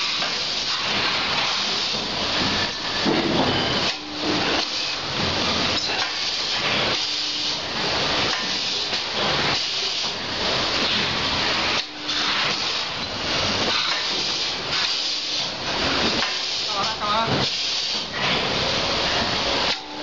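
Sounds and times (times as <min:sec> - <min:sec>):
packaging machine hissing: 0:00.0 - 0:19.8
packaging machine repeating beat: 0:00.0 - 0:20.0.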